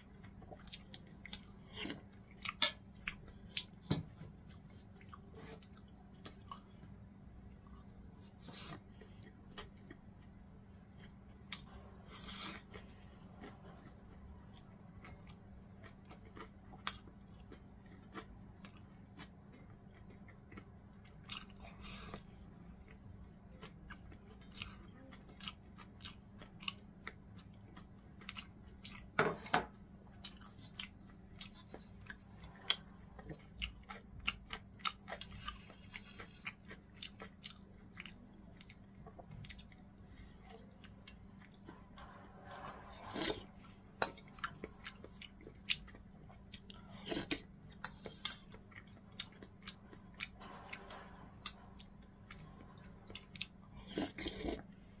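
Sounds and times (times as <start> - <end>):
faint steady hum: 0.0 - 55.0
person chewing food: 0.0 - 55.0.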